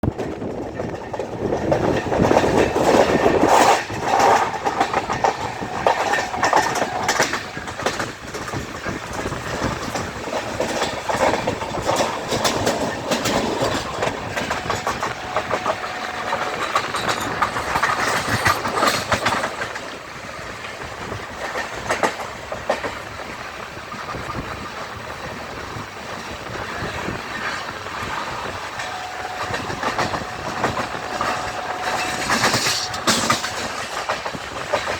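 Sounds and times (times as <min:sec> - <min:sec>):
train rumbling: 0:00.0 - 0:34.9
train wheels clattering: 0:00.0 - 0:34.9.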